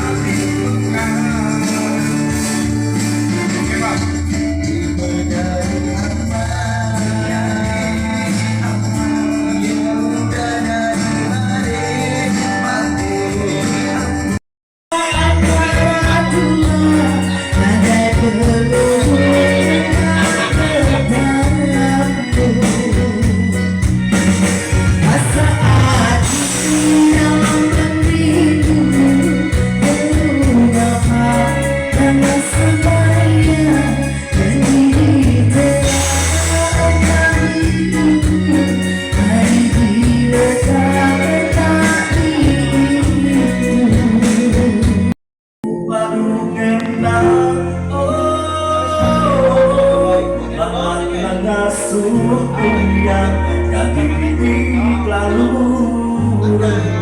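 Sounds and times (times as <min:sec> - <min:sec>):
band music: 0:00.0 - 0:57.0
person singing: 0:00.0 - 0:57.0
repeating bass line: 0:00.0 - 0:57.0.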